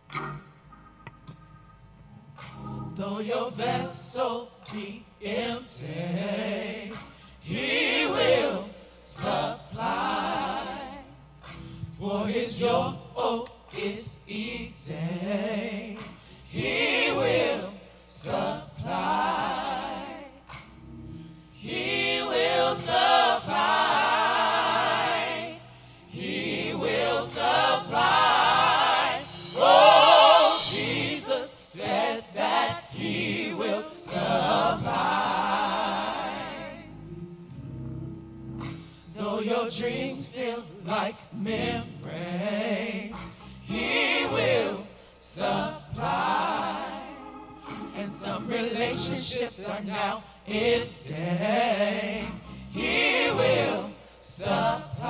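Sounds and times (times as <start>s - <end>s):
gospel choir singing: 2.4s - 37.2s, 38.6s - 55.0s.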